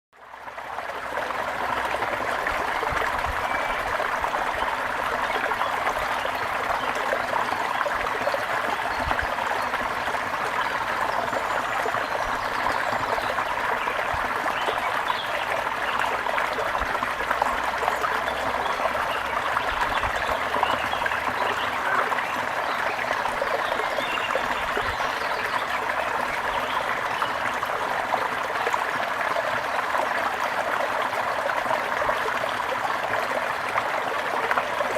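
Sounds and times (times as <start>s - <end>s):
water trickling: 0.3s - 34.9s.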